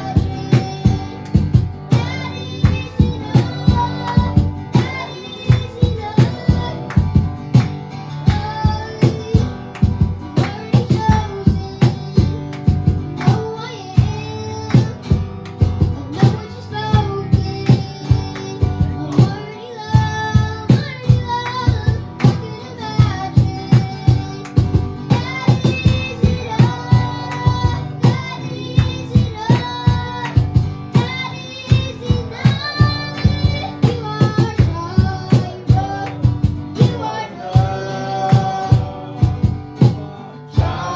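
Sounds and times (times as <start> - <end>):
person singing: 0.0 - 7.0, 8.2 - 15.2, 15.9 - 30.4, 31.0 - 40.9
steady drum beat: 0.0 - 19.4, 20.0 - 40.9
worship band playing: 0.0 - 40.9.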